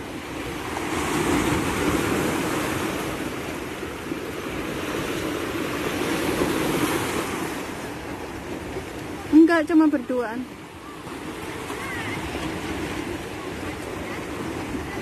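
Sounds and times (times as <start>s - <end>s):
sea waves splashing against a seawall: 0.0s - 15.0s.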